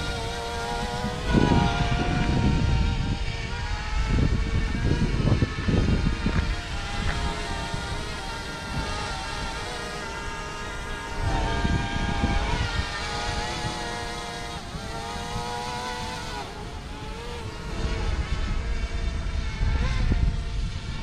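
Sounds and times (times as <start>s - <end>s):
drone propellers whining: 0.0s - 21.0s
wind rumble on microphone: 0.0s - 21.0s.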